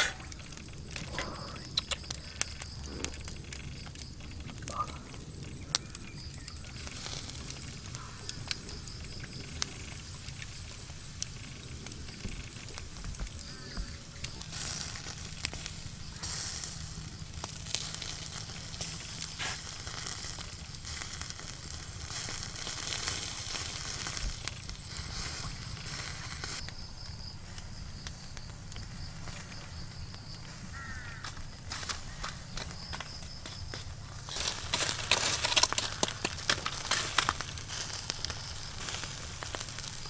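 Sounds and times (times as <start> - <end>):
charcoal crackles: 0.0 - 40.0
squid sizzling on grill: 0.0 - 40.0.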